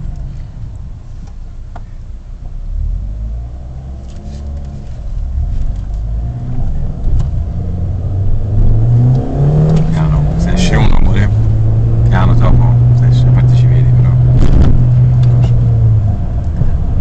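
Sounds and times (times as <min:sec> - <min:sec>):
car engine accelerating: 0:00.0 - 0:17.0
road rumble inside car: 0:00.0 - 0:17.0.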